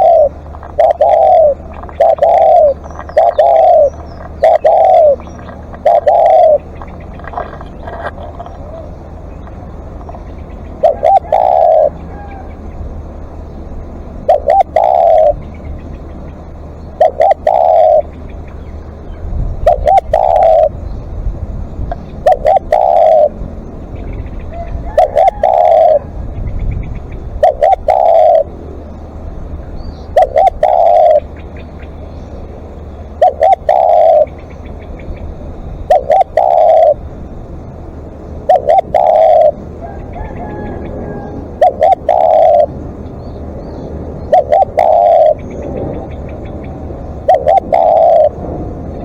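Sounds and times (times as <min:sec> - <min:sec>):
dove cooing: 0:00.0 - 0:37.5, 0:38.1 - 0:49.0.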